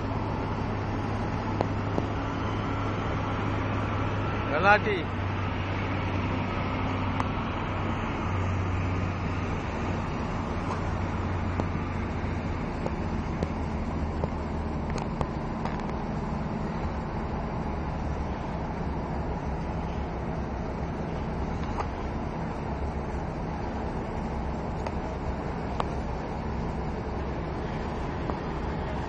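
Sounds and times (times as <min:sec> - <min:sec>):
ship engine humming: 0:00.0 - 0:29.0.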